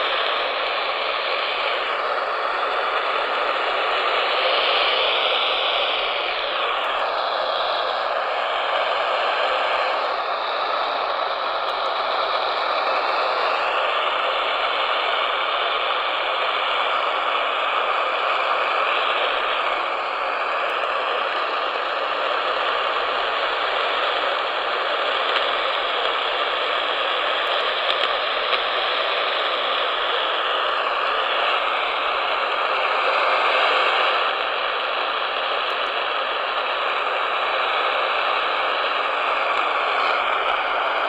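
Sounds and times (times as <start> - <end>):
faint radio broadcast: 0.0 - 41.0
radio static hiss: 0.0 - 41.0.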